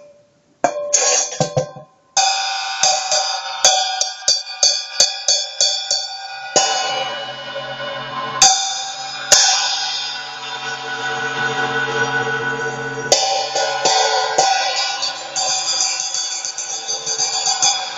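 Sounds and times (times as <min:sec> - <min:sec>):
hi-hat cymbal struck with drumstick: 0:00.0 - 0:17.9.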